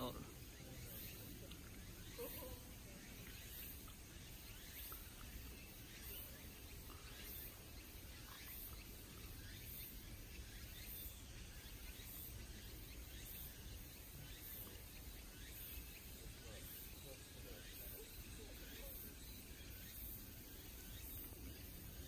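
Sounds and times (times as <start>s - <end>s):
faint high chirps: 0.0s - 22.0s.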